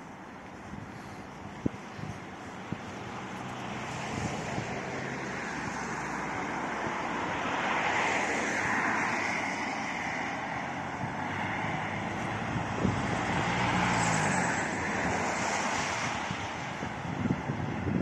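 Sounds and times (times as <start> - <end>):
outdoor rushing noise: 0.0 - 18.0.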